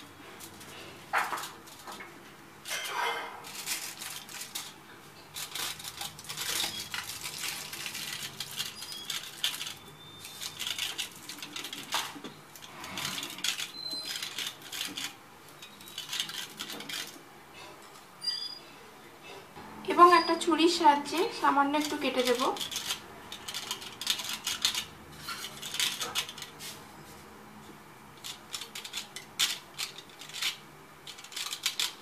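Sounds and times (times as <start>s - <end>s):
aluminium foil crinkling: 0.0s - 17.2s, 20.6s - 26.8s, 28.2s - 32.0s.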